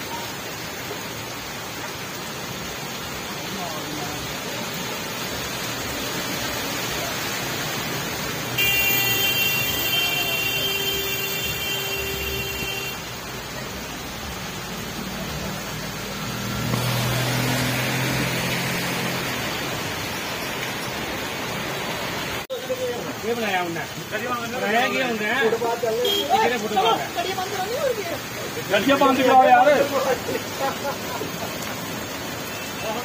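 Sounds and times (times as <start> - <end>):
heavy rain: 0.0 - 33.0
vehicles driving through water: 0.0 - 33.0.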